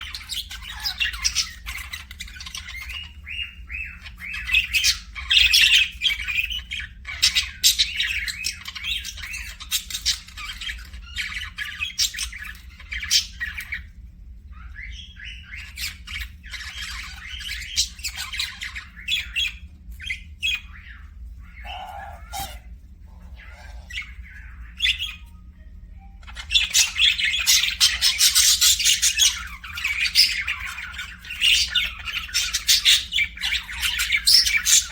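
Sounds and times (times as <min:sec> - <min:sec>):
parrots chirping and squawking: 0:00.0 - 0:25.4, 0:26.1 - 0:34.9.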